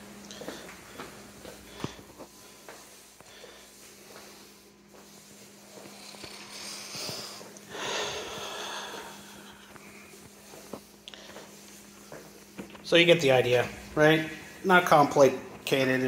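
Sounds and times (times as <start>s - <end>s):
mop swishing across floor: 0.0s - 16.0s.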